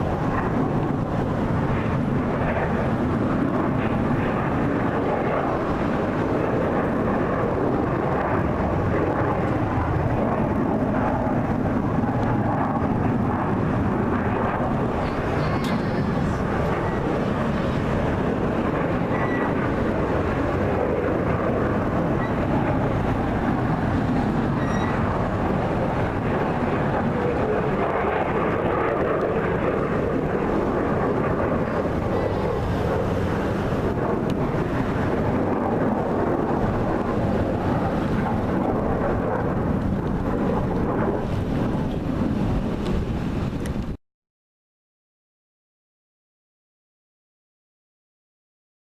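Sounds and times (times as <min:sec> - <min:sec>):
aircraft engine noise: 0:00.0 - 0:44.0.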